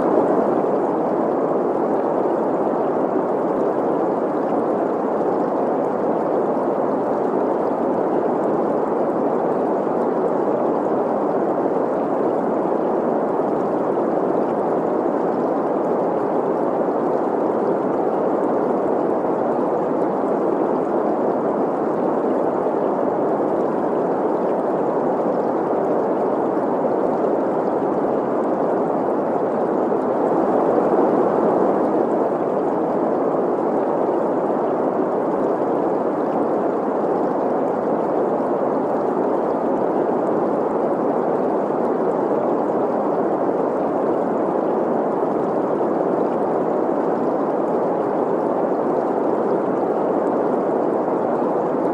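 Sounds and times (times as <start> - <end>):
stream flowing: 0.0 - 51.9.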